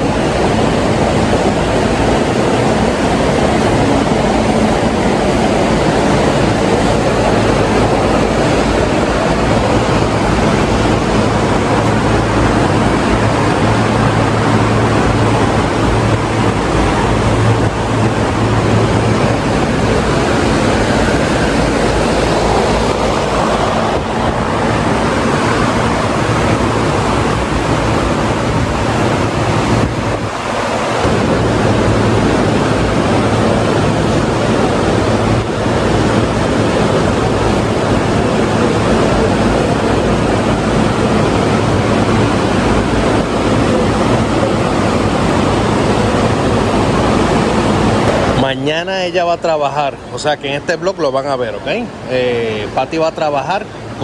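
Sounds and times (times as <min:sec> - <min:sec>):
low steady hum: 0:00.0 - 0:54.0
wind buffeting microphone: 0:00.0 - 0:54.0.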